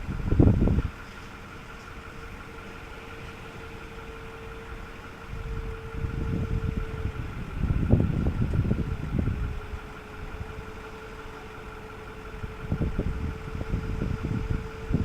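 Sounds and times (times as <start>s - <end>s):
steady whine: 0.0s - 15.0s
truck engine idling: 0.0s - 15.0s
uneven low rumbling: 0.0s - 15.0s.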